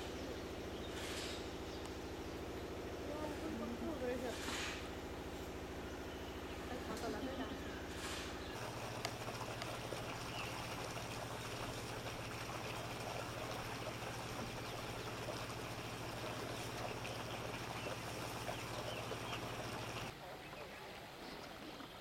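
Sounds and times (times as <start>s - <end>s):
low even hum: 0.0s - 22.0s.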